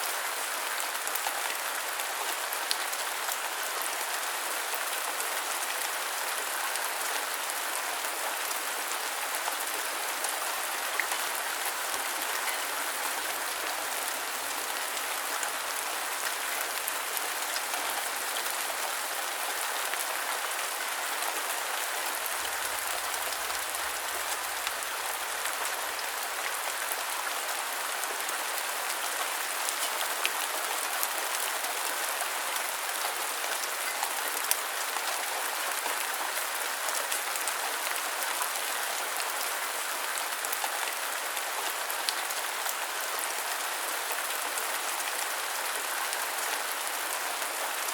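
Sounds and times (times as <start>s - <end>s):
steady rain pattering: 0.0s - 47.9s.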